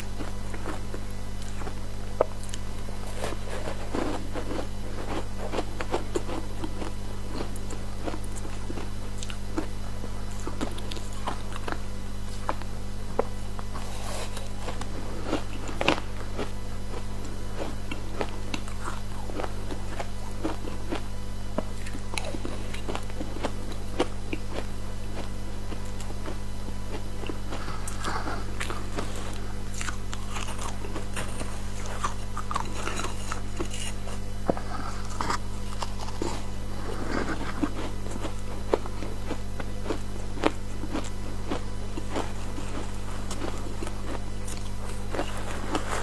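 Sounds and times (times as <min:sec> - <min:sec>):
steady low hum: 0:00.0 - 0:46.0
chewing ice crunches: 0:02.4 - 0:09.7, 0:10.3 - 0:46.0.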